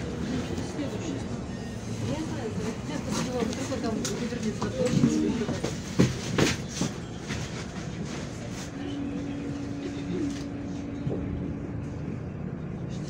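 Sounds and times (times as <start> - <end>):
bus cabin low rumble: 0.0 - 13.0.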